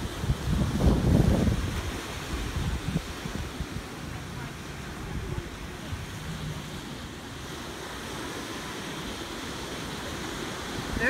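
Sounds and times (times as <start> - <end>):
small waves breaking on beach: 0.0 - 11.0
wind noise on microphone: 0.0 - 11.0.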